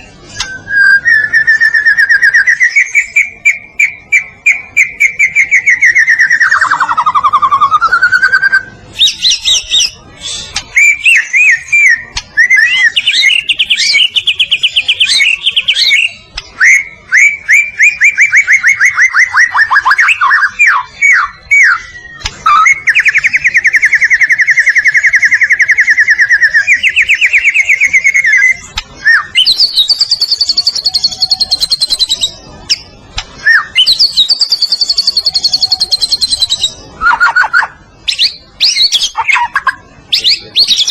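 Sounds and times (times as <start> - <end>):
songbird whistling and trilling: 0.0 - 40.9.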